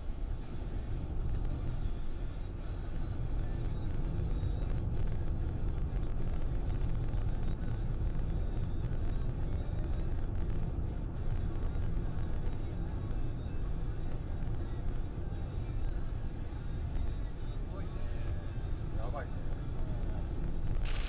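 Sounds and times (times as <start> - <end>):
tyres and engine rumble: 0.0 - 21.0.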